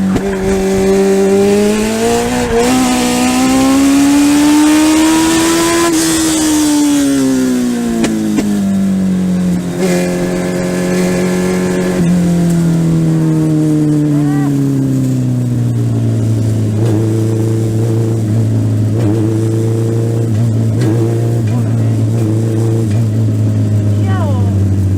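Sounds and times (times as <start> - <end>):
race car engine decelerating: 0.0 - 24.9.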